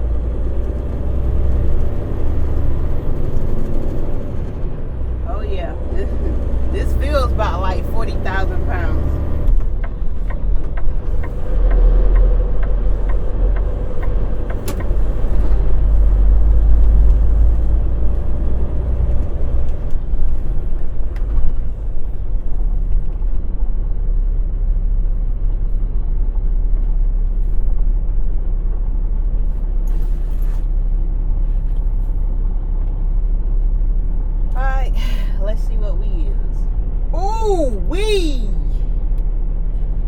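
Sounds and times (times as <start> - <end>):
truck diesel engine rumbling: 0.0 - 40.0.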